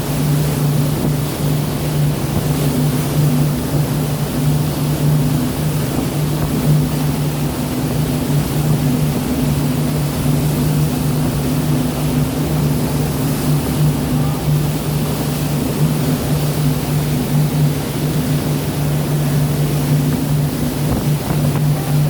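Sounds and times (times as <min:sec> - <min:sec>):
boat engine droning: 0:00.0 - 0:22.0
sea wash: 0:00.0 - 0:22.0.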